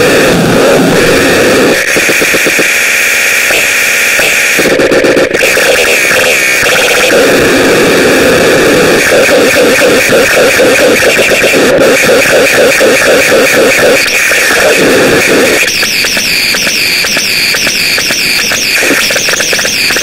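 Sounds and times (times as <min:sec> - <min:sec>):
harsh distorted noise: 0:00.0 - 0:20.0.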